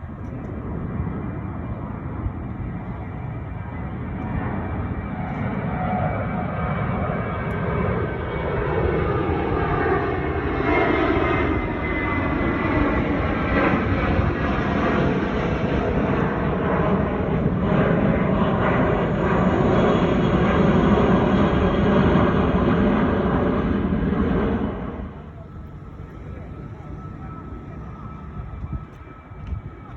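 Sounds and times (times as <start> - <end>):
jet airliner taking off: 0.0 - 29.9.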